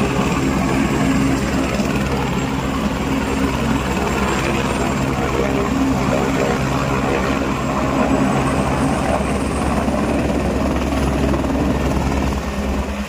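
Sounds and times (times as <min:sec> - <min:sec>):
helicopter rotor running loud: 0:00.0 - 0:13.0.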